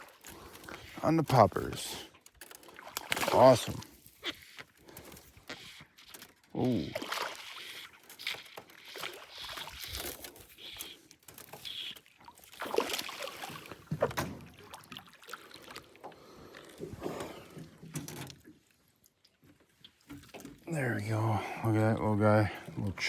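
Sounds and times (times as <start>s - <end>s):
water splashing around boat: 0.0s - 23.0s.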